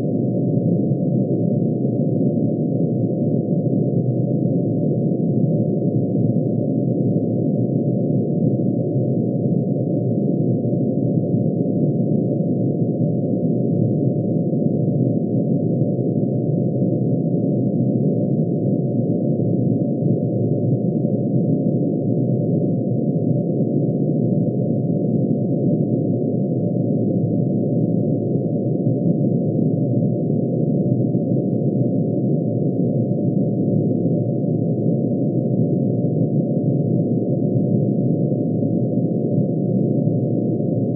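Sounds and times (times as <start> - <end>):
dense low sine tone drone: 0.0 - 40.9.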